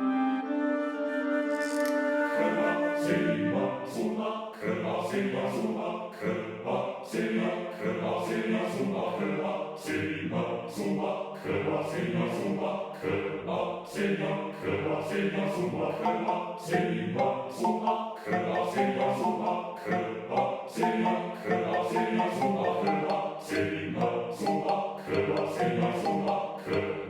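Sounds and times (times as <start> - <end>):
virtual choir singing syllables: 2.2 - 27.0.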